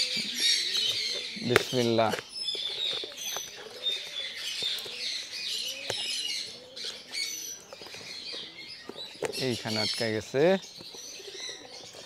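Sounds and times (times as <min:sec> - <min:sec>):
low cooing calls: 0:00.0 - 0:12.0
small birds chirping: 0:00.0 - 0:12.0.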